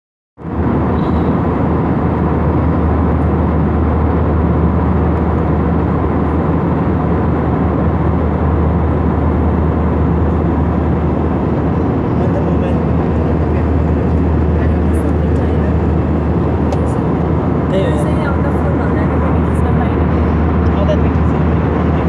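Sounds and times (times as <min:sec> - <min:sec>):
airliner cabin engine noise: 0:00.4 - 0:22.0
low hum: 0:00.4 - 0:22.0.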